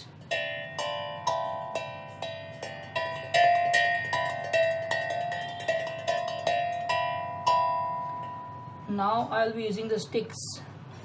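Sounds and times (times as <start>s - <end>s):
steel tongue drum notes: 0.0s - 9.3s.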